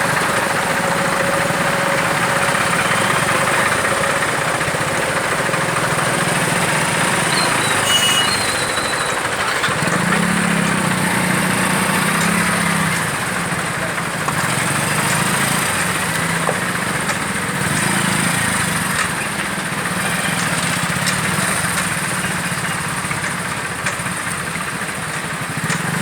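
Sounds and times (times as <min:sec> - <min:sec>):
vehicle engines humming: 0:00.0 - 0:26.0.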